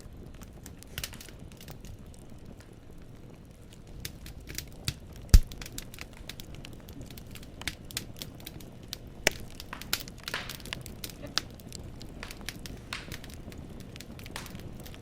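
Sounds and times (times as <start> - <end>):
firewood crackling in a fireplace: 0.0 - 15.0.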